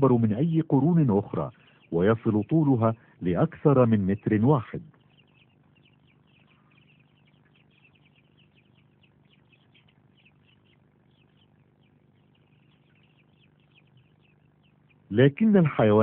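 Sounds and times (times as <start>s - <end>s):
faint birds chirping: 0.0s - 16.0s
low steady hum: 0.0s - 16.0s.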